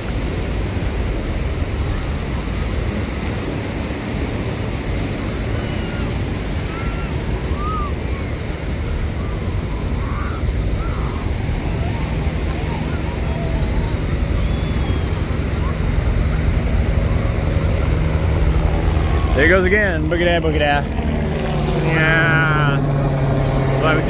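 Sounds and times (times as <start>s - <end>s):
ocean surf breaking: 0.0s - 24.0s
wind buffeting microphone: 0.0s - 24.0s.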